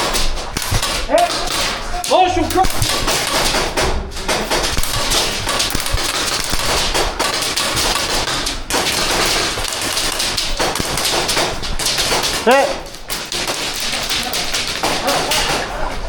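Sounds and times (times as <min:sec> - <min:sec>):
airsoft guns firing: 0:00.0 - 0:16.0
pellets striking hard surfaces: 0:00.0 - 0:16.0.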